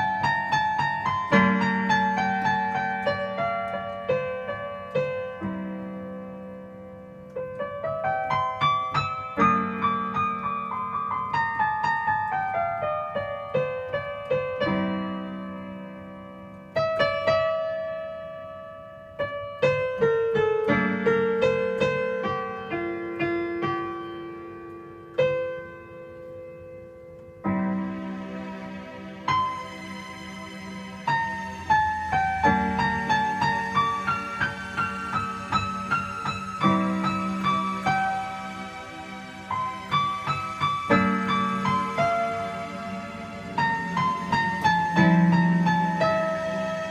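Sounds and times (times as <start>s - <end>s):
solo piano music: 0.0s - 46.9s.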